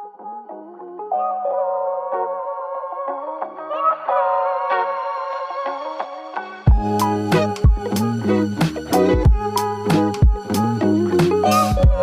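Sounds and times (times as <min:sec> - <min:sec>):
instrumental melody: 0:00.0 - 0:12.0.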